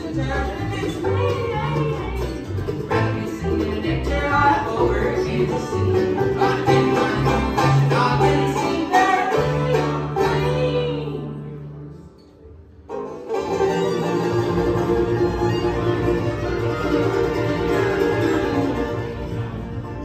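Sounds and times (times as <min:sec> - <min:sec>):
banjo picking: 0:00.0 - 0:20.0
bluegrass band playing: 0:00.0 - 0:20.0.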